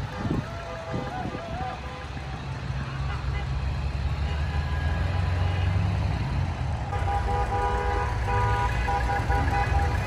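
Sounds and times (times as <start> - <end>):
car horns honking: 0.0 - 6.3, 6.9 - 10.0
vehicles driving past: 0.0 - 10.0.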